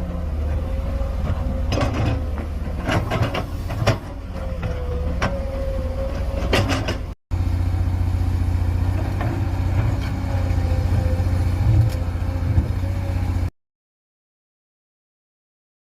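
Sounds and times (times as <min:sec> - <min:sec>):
excavator diesel engine running: 0:00.0 - 0:13.5.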